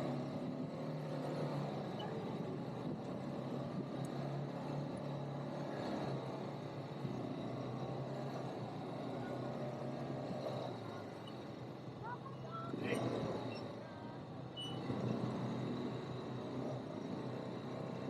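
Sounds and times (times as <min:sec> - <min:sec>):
atv engine humming: 0:00.0 - 0:18.0.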